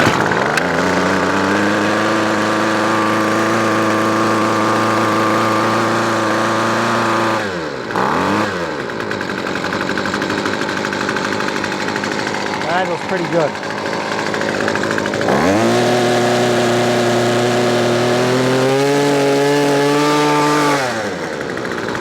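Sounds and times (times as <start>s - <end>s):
two-stroke engine running: 0.0s - 22.0s.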